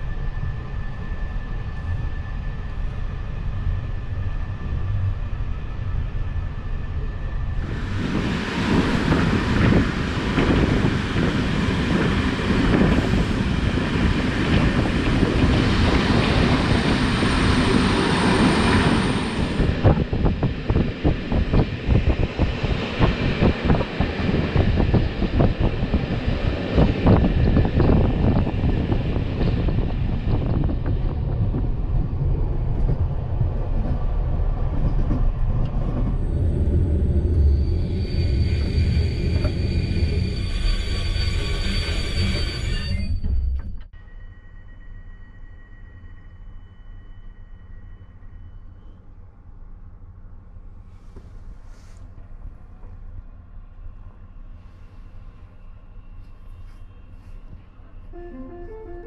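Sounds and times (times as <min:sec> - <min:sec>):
train rolling on rails: 0:00.0 - 0:59.0.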